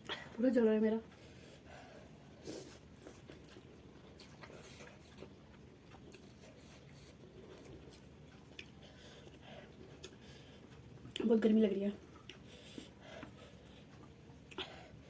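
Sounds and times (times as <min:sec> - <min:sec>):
faint chewing noodles: 0:01.0 - 0:15.0.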